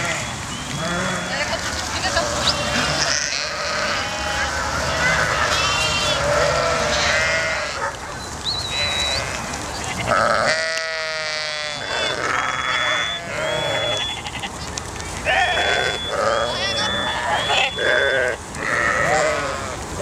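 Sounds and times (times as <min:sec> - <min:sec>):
sheep bleating: 0:00.0 - 0:07.8, 0:08.7 - 0:14.6, 0:15.2 - 0:19.8.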